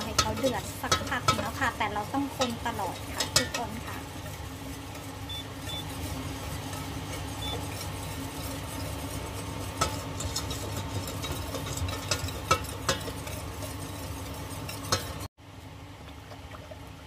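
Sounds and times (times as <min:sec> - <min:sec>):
utensil clinking against pot: 0:00.0 - 0:15.3
utensil scraping a pot: 0:00.0 - 0:15.3.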